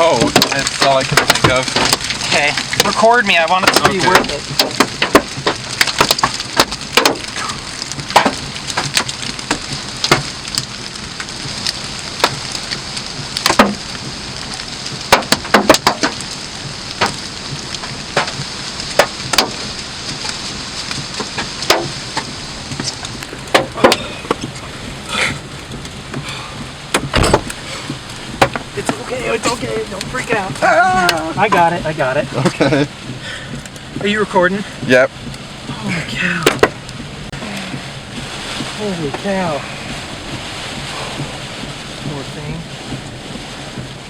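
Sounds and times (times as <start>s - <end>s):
hailstones striking a vehicle: 0.0s - 44.0s
rain hiss: 0.0s - 44.0s.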